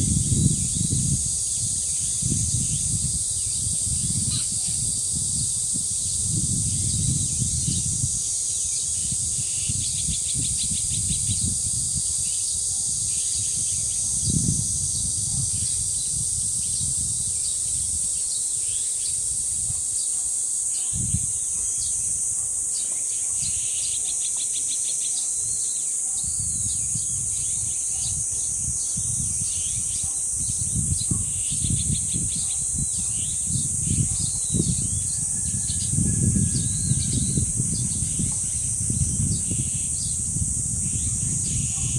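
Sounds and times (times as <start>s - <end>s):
wind buffeting microphone: 0.0s - 20.0s, 20.9s - 22.6s, 26.2s - 41.9s
cicadas droning: 0.0s - 41.9s
small birds chirping: 0.2s - 41.9s.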